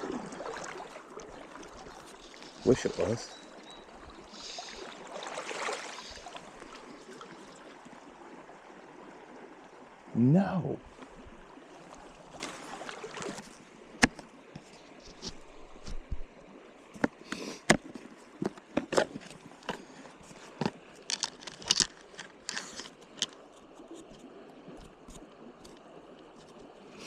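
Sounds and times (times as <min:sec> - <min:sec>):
faint stream: 0:00.0 - 0:27.0.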